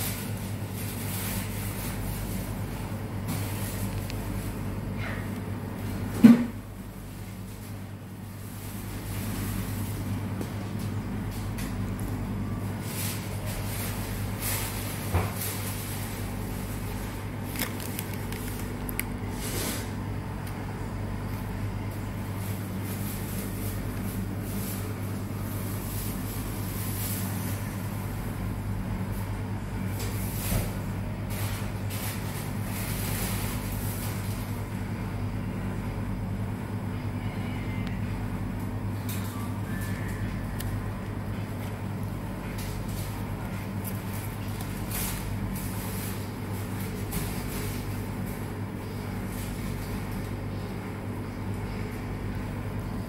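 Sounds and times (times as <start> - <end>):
restaurant room hum: 0.0 - 53.0.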